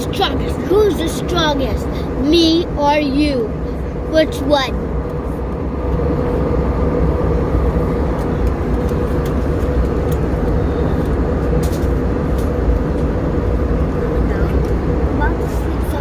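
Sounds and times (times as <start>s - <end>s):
jet airliner cabin roar: 0.0s - 16.0s.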